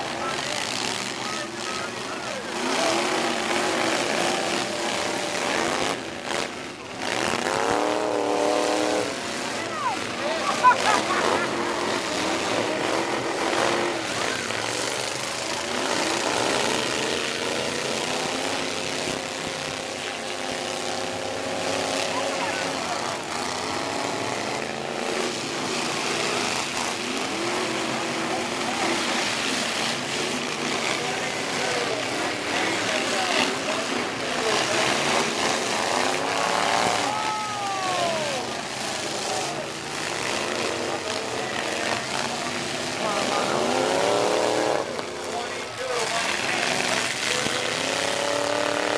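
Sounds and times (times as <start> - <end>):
crowd noise: 0.0 - 48.9
truck engines revving: 0.0 - 48.9.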